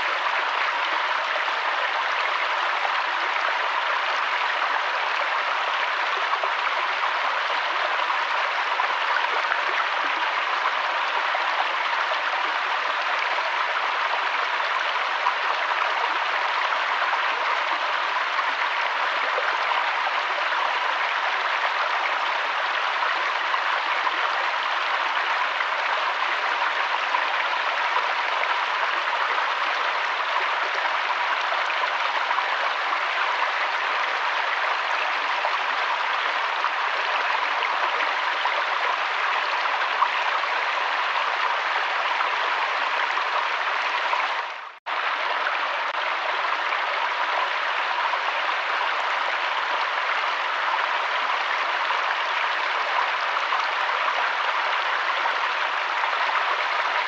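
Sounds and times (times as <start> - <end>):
river water rushing and splashing: 0.0 - 57.0.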